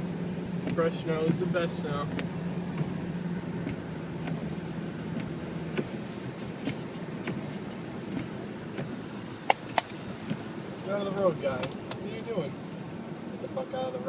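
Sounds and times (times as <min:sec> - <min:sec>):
car engine drone: 0:00.0 - 0:14.0
road noise: 0:00.0 - 0:14.0.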